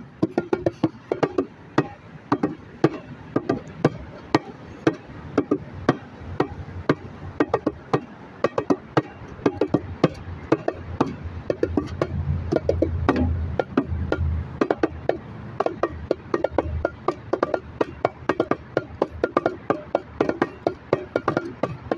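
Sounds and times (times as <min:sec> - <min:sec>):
bongos slapped and tapped: 0:00.0 - 0:21.9.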